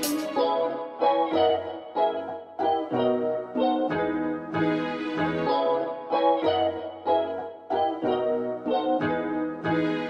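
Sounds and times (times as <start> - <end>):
electric piano music: 0.0 - 10.0.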